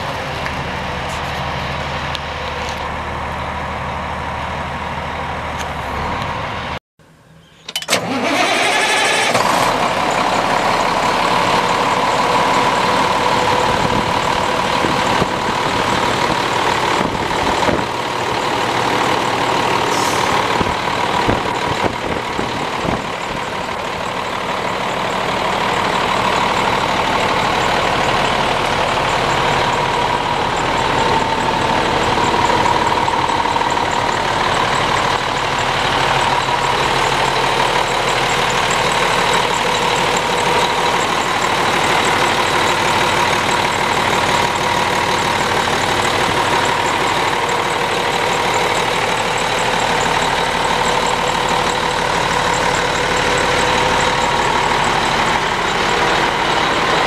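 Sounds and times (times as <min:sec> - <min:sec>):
diesel engine idling: 0:00.0 - 0:57.0
steady engine whine: 0:00.0 - 0:57.0.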